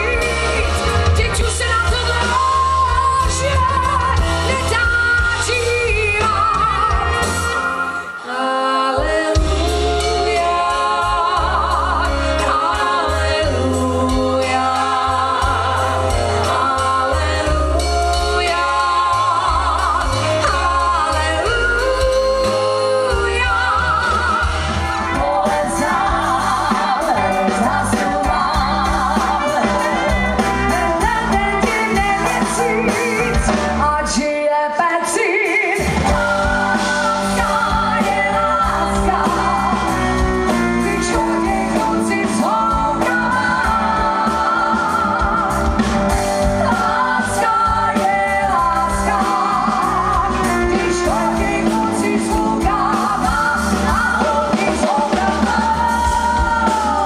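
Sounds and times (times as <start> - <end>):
live pop-rock band: 0.0 - 57.0
woman singing: 0.0 - 57.0.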